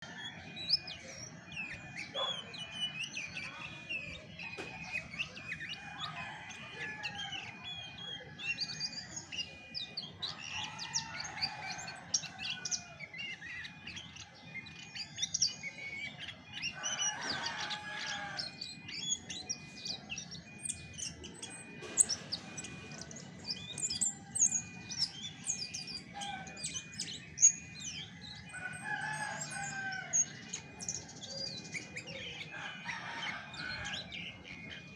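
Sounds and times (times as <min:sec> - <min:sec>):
thrush singing: 0:00.0 - 0:34.9.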